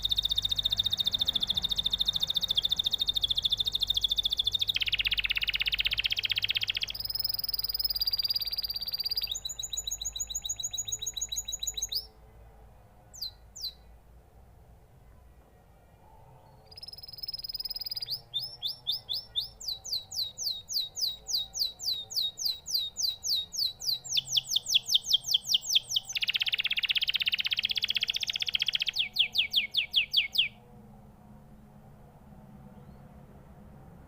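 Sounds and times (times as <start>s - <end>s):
canary singing: 0.0s - 12.2s, 13.1s - 14.0s, 16.4s - 30.6s.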